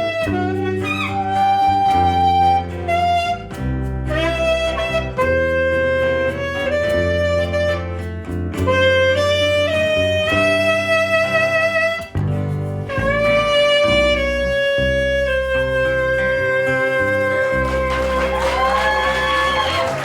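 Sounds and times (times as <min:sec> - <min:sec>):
band accompaniment with bass: 0:00.0 - 0:20.0
saxophone melody: 0:00.0 - 0:20.0.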